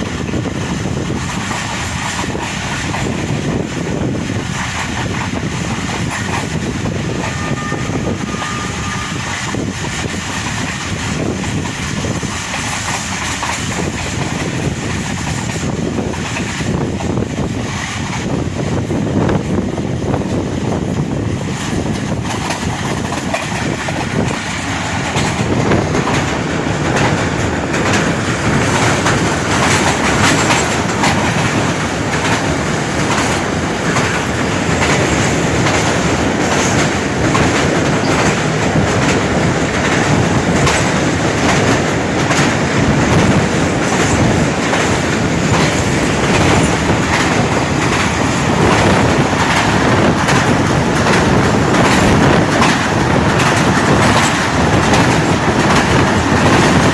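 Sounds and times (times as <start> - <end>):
rumble of train carriages: 0.0 - 56.9
train wheels clattering over rail joints: 0.0 - 56.9.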